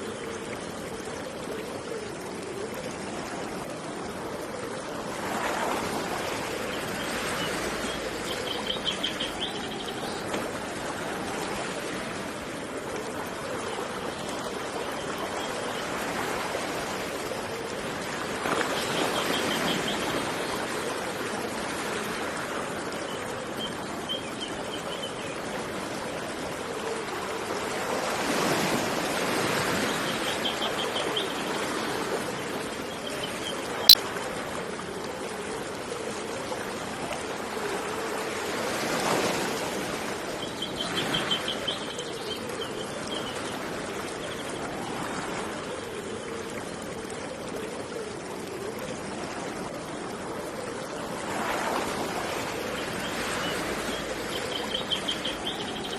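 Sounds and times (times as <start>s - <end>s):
flowing water rushing: 0.0s - 55.9s.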